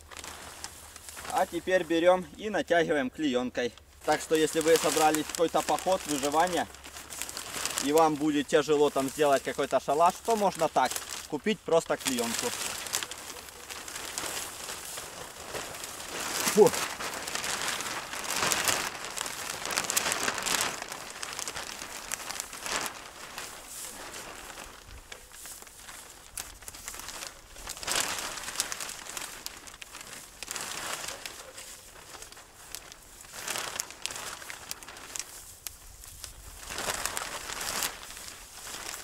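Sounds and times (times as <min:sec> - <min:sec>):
plastic sheeting crinkling: 0:00.0 - 0:39.0.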